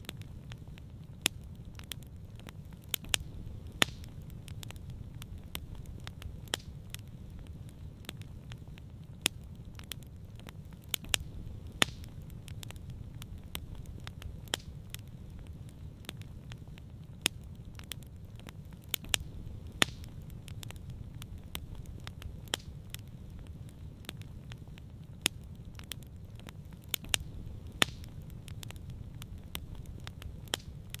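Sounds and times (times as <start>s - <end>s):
campfire crackling and popping: 0.0s - 31.0s
low steady rumble: 0.0s - 31.0s.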